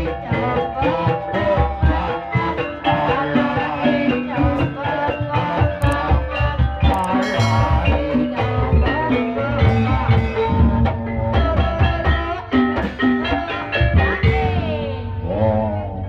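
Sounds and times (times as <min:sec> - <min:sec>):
gamelan drums and metal percussion: 0:00.0 - 0:15.5.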